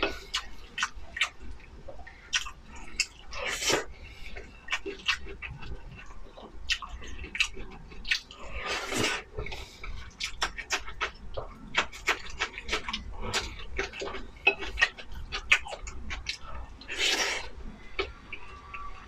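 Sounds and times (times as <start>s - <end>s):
wet chewing smacks and clicks: 0.0s - 19.0s.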